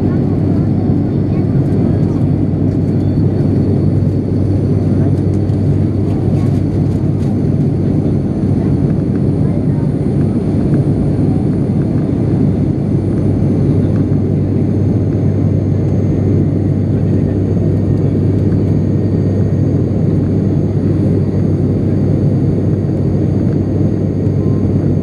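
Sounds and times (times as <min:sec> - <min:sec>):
propeller plane cabin drone: 0:00.0 - 0:25.0.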